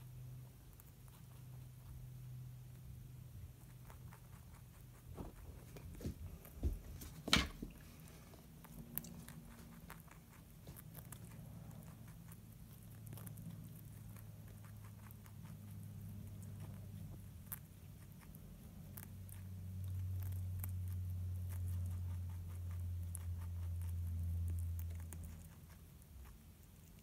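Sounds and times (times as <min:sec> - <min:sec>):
low steady hum: 0:00.0 - 0:27.0
rabbit crunching broccoli: 0:00.0 - 0:27.0.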